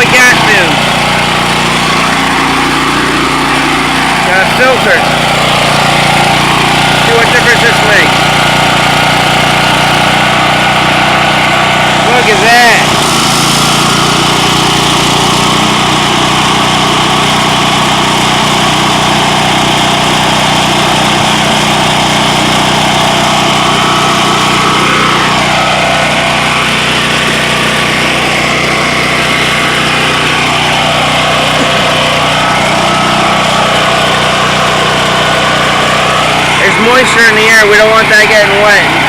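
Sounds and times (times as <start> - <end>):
generator engine running: 0.0 - 39.0.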